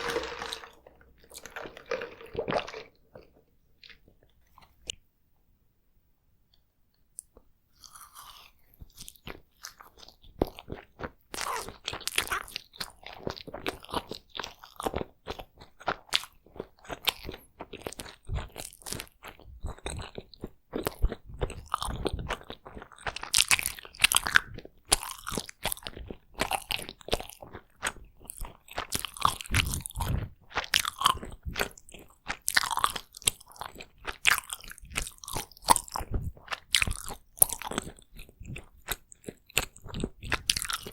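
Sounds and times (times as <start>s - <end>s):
close chewing with wet clicks: 7.2s - 40.9s.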